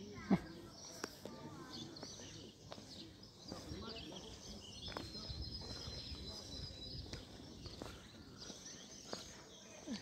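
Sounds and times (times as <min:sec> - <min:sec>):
birds chirping faintly: 0:00.0 - 0:10.0
low outdoor background noise: 0:00.0 - 0:10.0.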